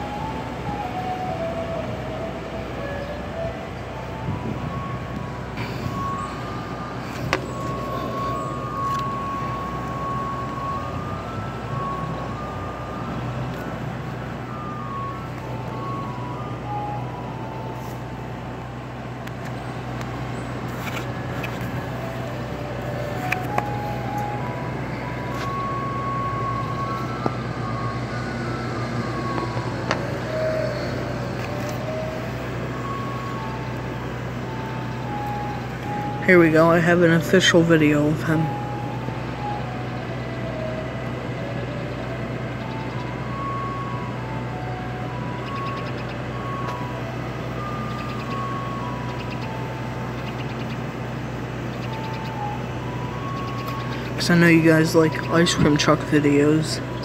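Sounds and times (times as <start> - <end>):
ice cream truck chime jingle: 0.0 - 57.0
low engine hum: 0.0 - 57.0.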